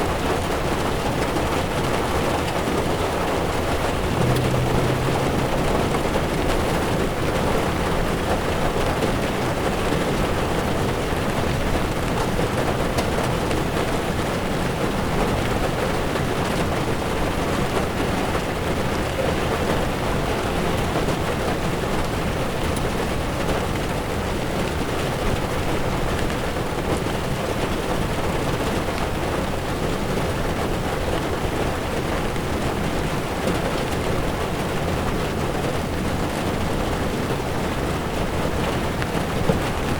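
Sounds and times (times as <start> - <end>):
heavy rain drumming on car roof: 0.0 - 39.9
tyres hissing on wet road: 0.0 - 39.9.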